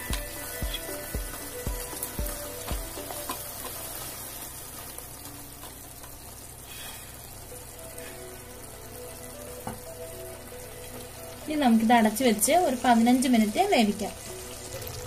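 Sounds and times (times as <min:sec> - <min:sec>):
curry sizzling in a pot: 0:00.0 - 0:15.0.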